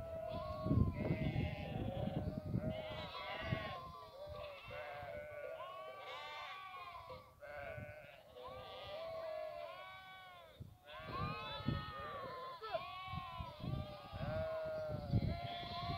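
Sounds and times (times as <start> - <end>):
chorus of animals calling: 0.1 - 15.9.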